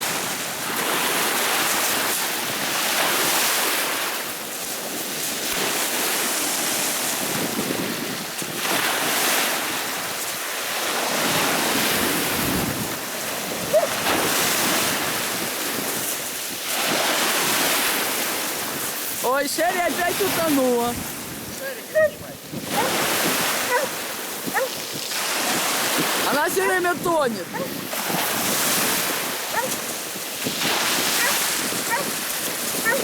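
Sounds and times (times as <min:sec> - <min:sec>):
waves breaking on shore: 0:00.0 - 0:33.0
wind on microphone: 0:04.8 - 0:33.0.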